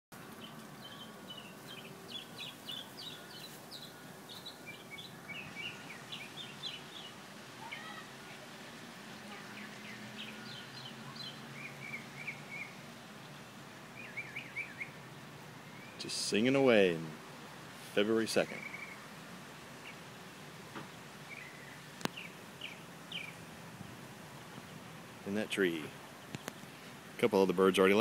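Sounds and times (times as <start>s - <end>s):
songbirds chirping: 0.2s - 28.0s.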